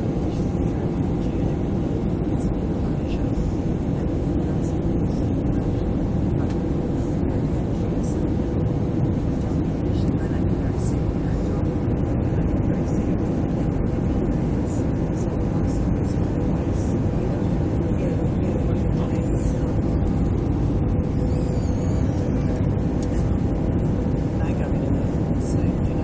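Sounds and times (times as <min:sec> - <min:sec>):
airflow and engine rush: 0:00.0 - 0:26.0
faint steady hums: 0:00.0 - 0:26.0.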